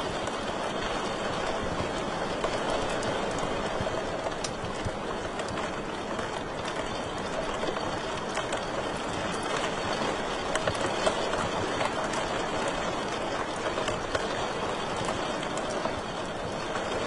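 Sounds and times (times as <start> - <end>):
fire crackling with pops: 1.7 - 16.8.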